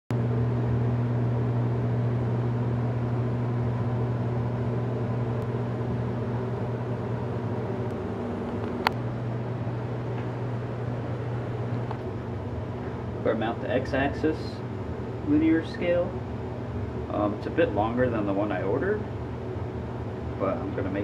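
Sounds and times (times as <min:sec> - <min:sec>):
low machine hum: 0:00.1 - 0:21.0.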